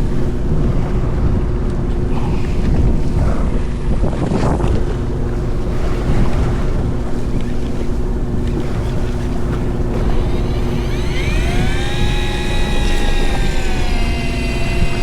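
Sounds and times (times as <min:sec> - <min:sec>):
boat engine droning: 0:00.0 - 0:15.0
sea wash: 0:00.0 - 0:15.0
wind buffeting microphone: 0:00.0 - 0:15.0.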